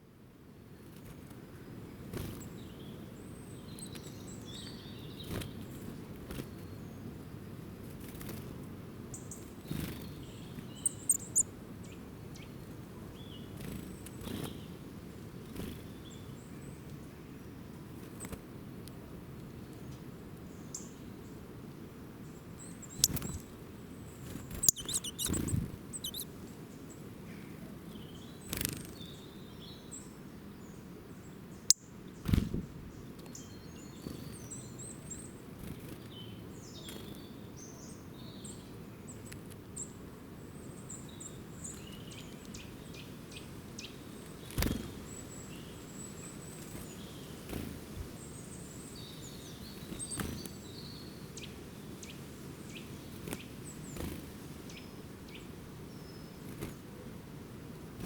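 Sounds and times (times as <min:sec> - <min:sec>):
outdoor background noise: 0:00.0 - 0:58.0
small birds chirping: 0:00.8 - 0:58.0.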